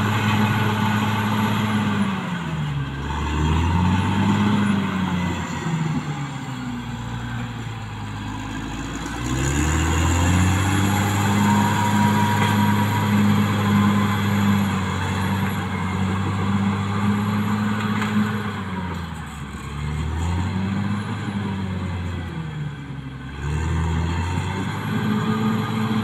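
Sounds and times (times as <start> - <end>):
bulldozer diesel engine: 0.0 - 26.0.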